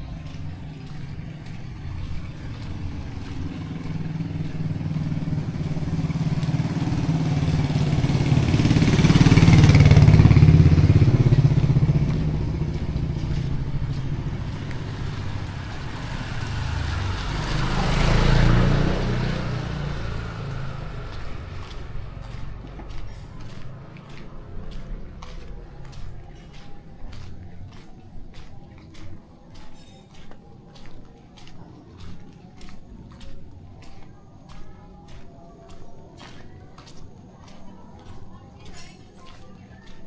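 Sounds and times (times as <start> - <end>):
vehicles passing by: 0.0 - 40.0.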